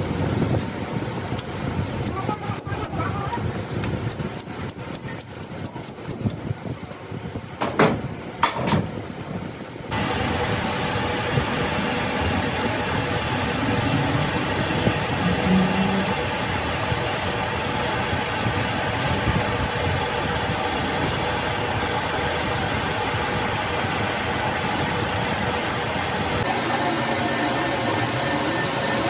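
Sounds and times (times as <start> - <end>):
machine hissing and humming: 0.0 - 7.4, 8.0 - 29.0.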